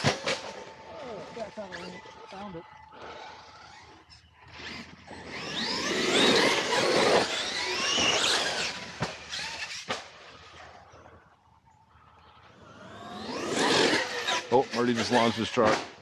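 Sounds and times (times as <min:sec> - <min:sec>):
rc truck motor whine: 0:00.0 - 0:11.1, 0:12.0 - 0:15.6.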